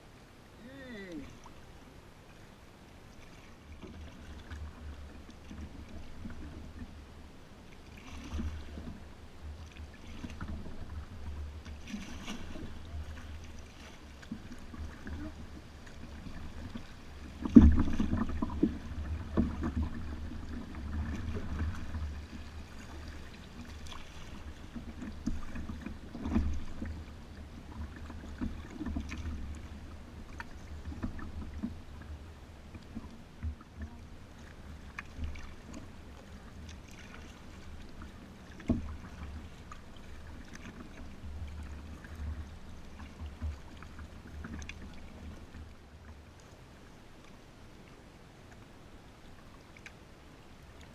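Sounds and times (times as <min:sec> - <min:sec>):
paddle strokes and water splashing: 0:00.0 - 0:50.9.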